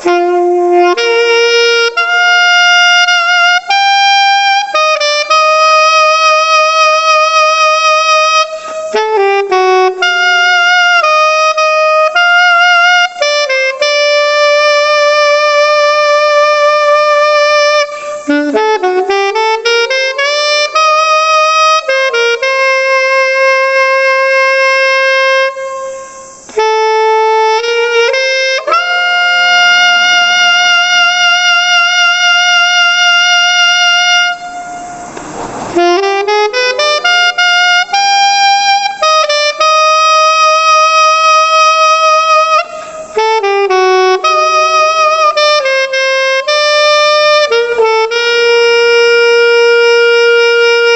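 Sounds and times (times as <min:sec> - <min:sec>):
alto saxophone melody: 0:00.0 - 0:50.9.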